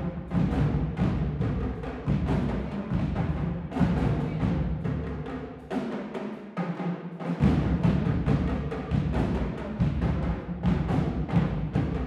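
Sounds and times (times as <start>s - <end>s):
snare drums: 0.0s - 12.0s
tenor drums: 0.0s - 12.0s.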